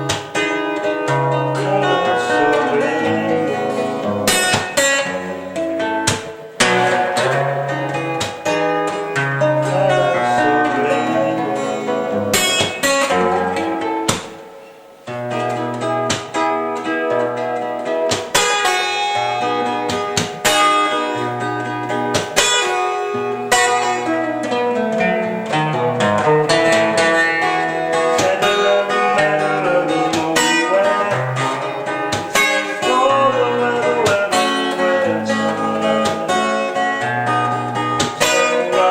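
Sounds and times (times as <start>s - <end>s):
acoustic guitar plucked piece: 0.0s - 38.9s.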